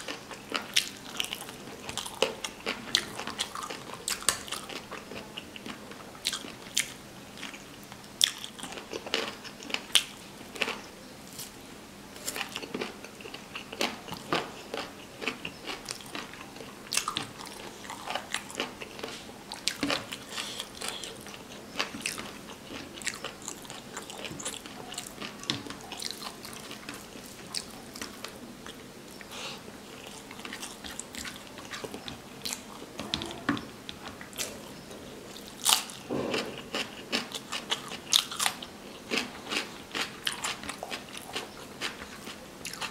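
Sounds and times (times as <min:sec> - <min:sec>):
person chewing rice: 0:00.0 - 0:11.6, 0:12.2 - 0:42.9.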